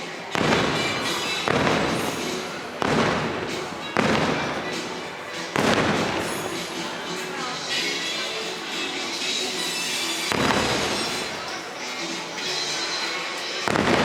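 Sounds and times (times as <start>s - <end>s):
fireworks booming and crackling: 0.0s - 12.0s, 13.5s - 14.0s
music playing: 0.0s - 14.0s.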